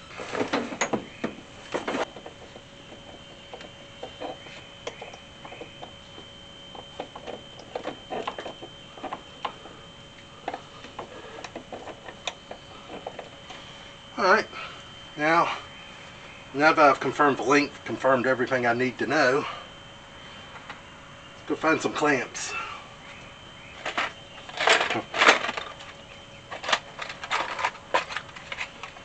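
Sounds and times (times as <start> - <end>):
faint high whine: 0.0 - 29.0.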